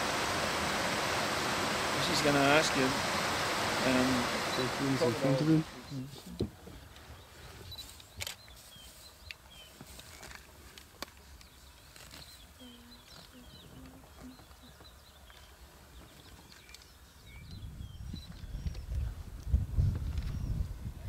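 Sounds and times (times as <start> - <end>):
small birds chirping: 1.2 - 20.8.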